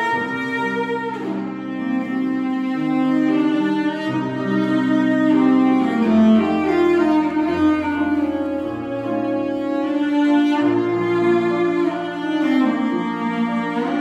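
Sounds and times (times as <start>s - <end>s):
cello bowed notes: 0.0s - 14.0s
digital piano: 0.0s - 14.0s.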